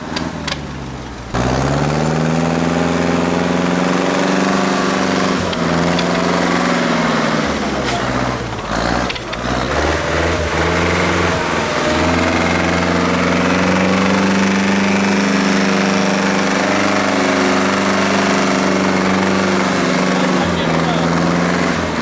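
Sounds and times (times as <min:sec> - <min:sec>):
tractor engine running hard: 0:00.0 - 0:22.0.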